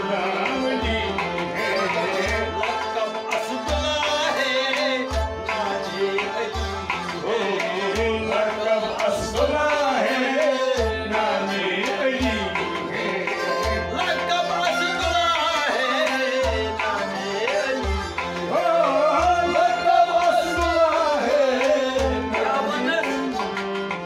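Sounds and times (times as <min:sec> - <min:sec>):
man singing: 0:00.0 - 0:23.8
harmonium held notes: 0:00.0 - 0:24.0.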